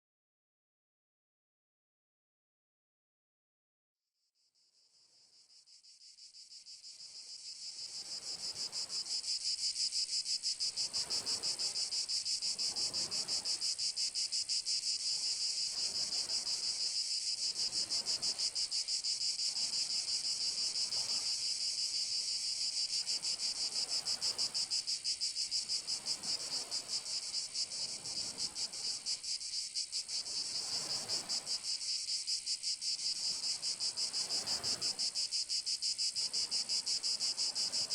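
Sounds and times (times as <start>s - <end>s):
cicadas buzzing: 5.6s - 37.9s.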